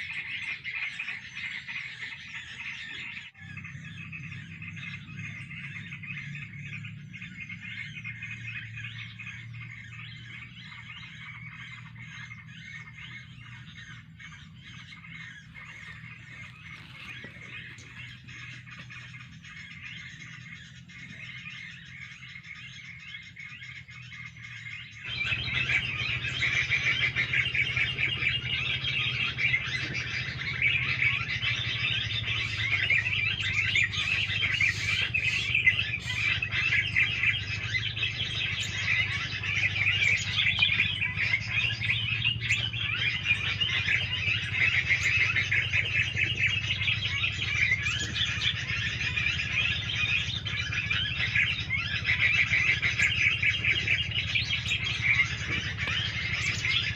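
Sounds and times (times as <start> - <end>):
low steady hum: 0.0 - 56.9
songbirds chirping: 0.0 - 56.9.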